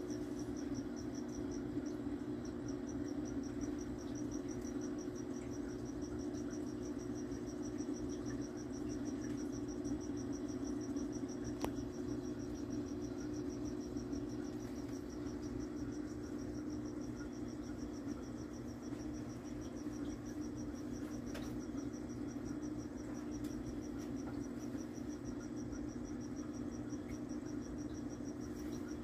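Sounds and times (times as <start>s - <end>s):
cricket chirping: 0.0s - 29.0s
steady low hum: 0.0s - 29.0s.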